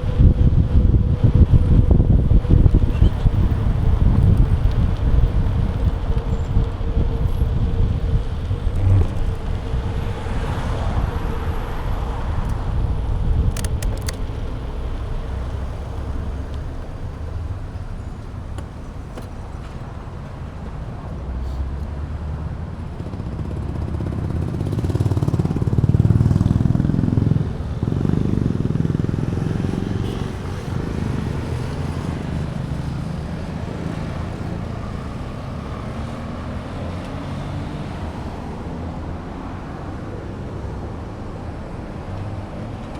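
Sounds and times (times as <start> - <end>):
vehicle noise: 0.0 - 42.9
wind rumbling on microphone: 0.0 - 42.9.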